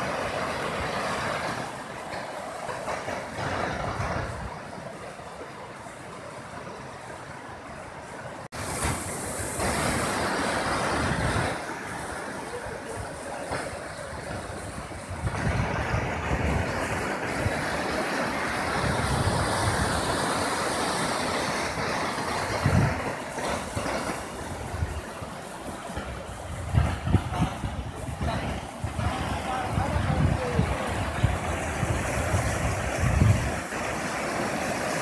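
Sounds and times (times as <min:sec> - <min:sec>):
river rushing: 0:00.0 - 0:35.0
wind on microphone: 0:03.4 - 0:04.9, 0:08.5 - 0:35.0.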